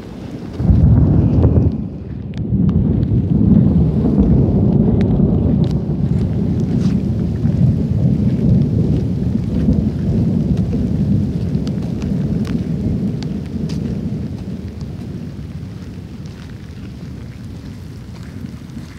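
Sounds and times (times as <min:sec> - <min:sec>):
light ticks of rain: 0:00.0 - 0:18.9
wind buffeting microphone: 0:00.0 - 0:18.9.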